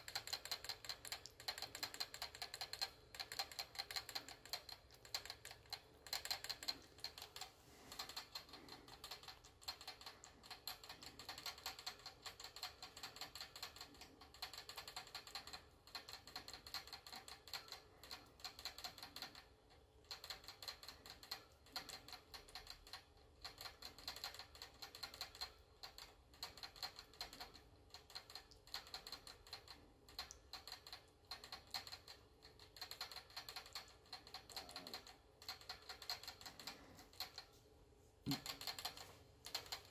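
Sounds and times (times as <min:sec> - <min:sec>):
rat drinking from water bottle: 0:00.0 - 0:37.6, 0:38.2 - 0:39.9.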